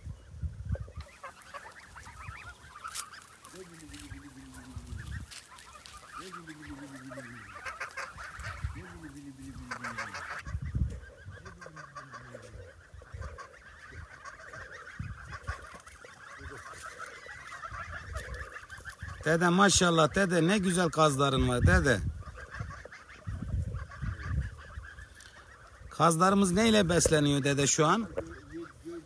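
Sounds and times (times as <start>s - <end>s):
goslings honking and chattering: 0.0s - 29.0s
low falling calls: 0.0s - 29.0s.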